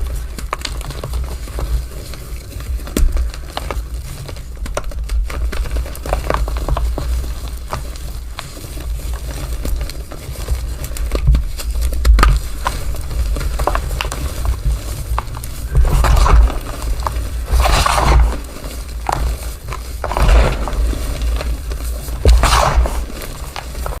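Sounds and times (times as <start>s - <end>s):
chalk powder crunching: 0.0s - 24.0s.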